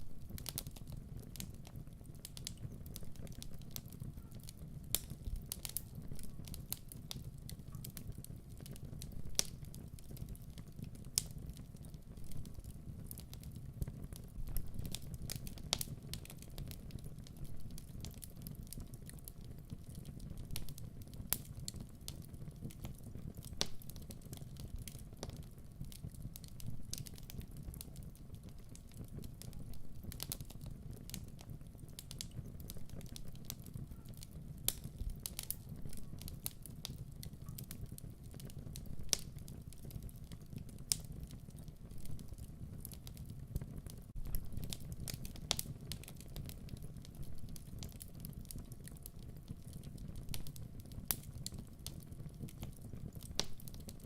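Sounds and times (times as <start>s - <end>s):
wood fire crackling in fireplace: 0.0s - 54.0s.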